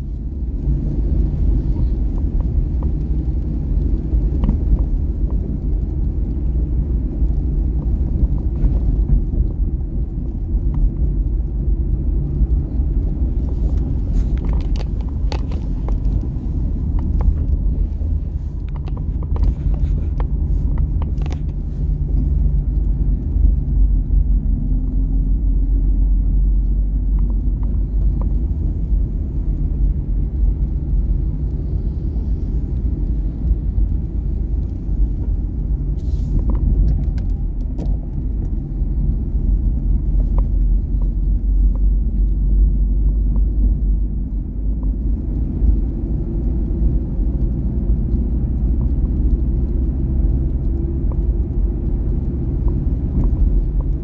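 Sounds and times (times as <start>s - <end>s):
engine and road rumble in car: 0.0s - 54.0s.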